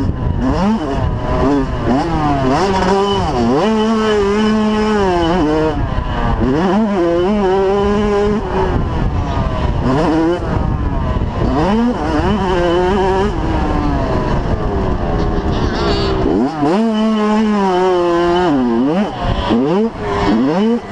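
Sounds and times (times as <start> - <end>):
two-stroke motocross bike engine revving: 0.0 - 20.9.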